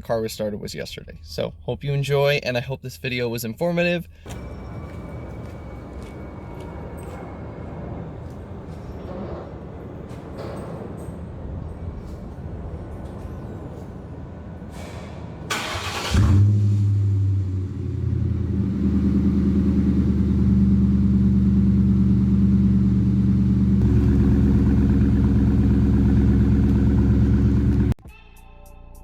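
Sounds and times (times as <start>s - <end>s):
car engine idling: 4.3s - 28.0s.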